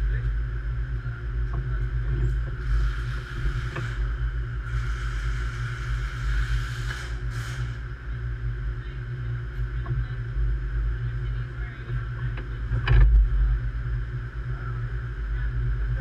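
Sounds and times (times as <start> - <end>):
train low rumble and hum: 0.0 - 16.0.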